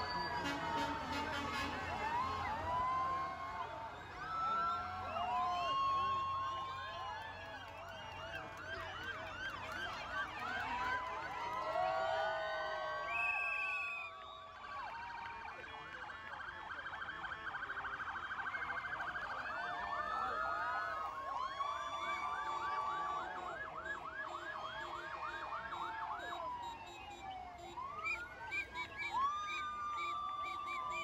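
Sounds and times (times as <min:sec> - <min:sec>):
ambulance sirens overlapping: 0:00.0 - 0:31.0.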